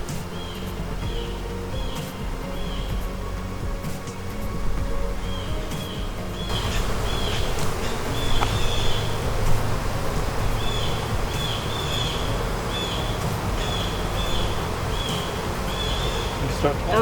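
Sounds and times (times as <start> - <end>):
hive frames knocking: 0.0 - 16.8
bird chirping: 0.0 - 16.9
bees buzzing: 0.0 - 17.0.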